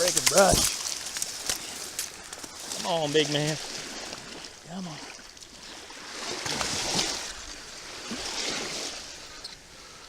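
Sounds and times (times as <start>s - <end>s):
water splashing at shoreline: 0.0s - 10.0s.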